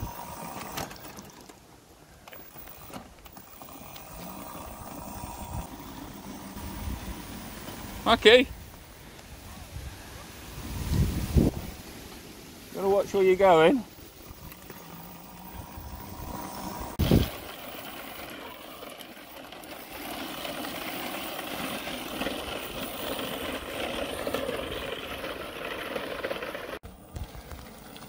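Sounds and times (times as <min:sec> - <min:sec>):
electric go kart motor and tyres: 0:00.0 - 0:11.6, 0:12.2 - 0:28.0.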